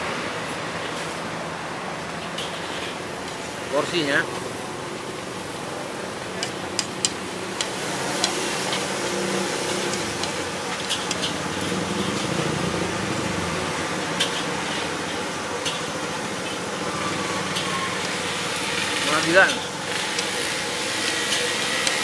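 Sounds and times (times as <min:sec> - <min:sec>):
street-food stall din: 0:00.0 - 0:22.0.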